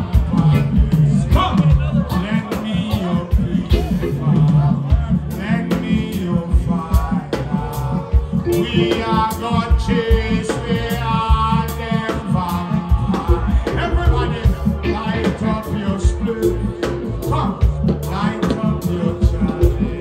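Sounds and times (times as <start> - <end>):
live reggae band: 0.0 - 20.0
man singing into microphone: 0.0 - 20.0.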